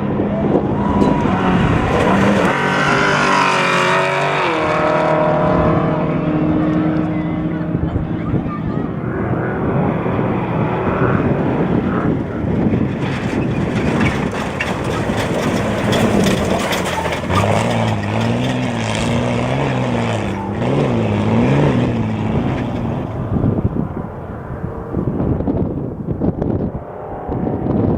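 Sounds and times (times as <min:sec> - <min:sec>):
truck engine running hard: 0:00.0 - 0:26.6
wind and road noise: 0:00.0 - 0:27.9.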